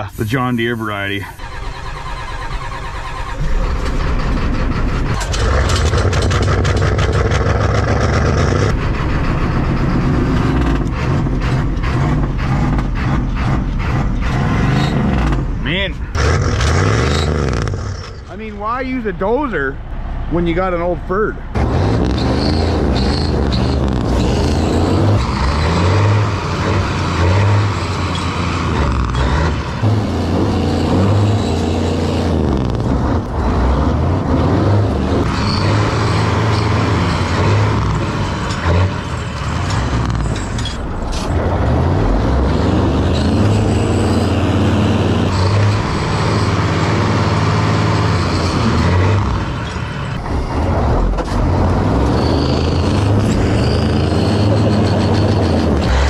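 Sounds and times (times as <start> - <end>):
diesel engine revving under load: 0.0 - 56.0.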